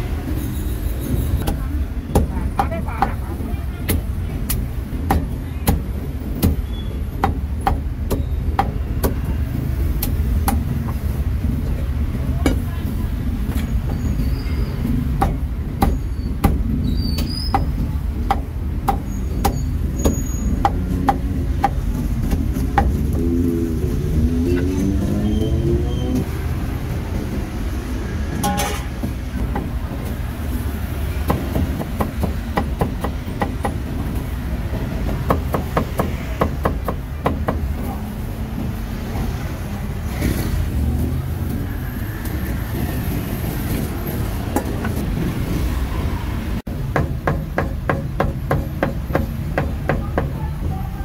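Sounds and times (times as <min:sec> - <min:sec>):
street noise rumble: 0:00.0 - 0:51.0.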